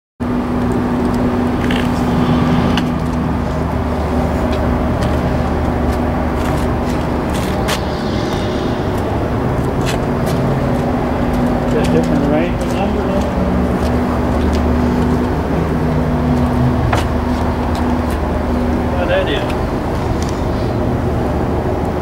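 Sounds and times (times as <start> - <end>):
diesel engine running: 0.2 - 22.0.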